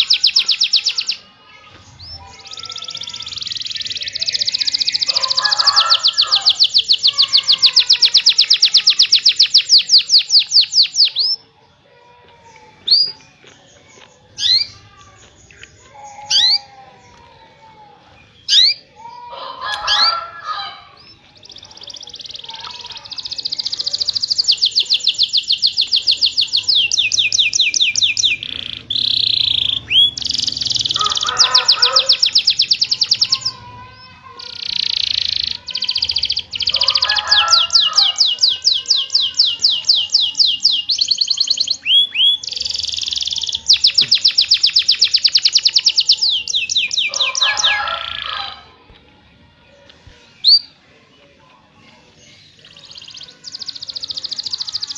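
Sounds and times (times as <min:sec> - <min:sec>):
canary singing trills: 0:00.0 - 0:11.5, 0:12.5 - 0:48.7, 0:51.8 - 0:54.9.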